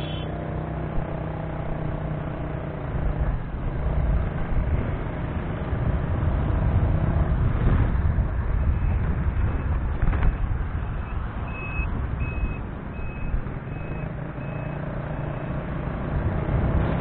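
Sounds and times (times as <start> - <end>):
vehicle engine hum: 0.0 - 17.0
wind and road noise rumble: 0.0 - 17.0.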